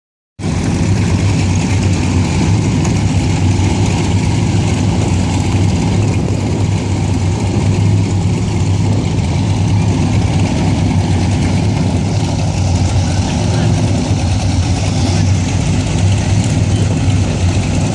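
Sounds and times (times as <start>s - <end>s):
boat engines idling: 0.4s - 17.9s.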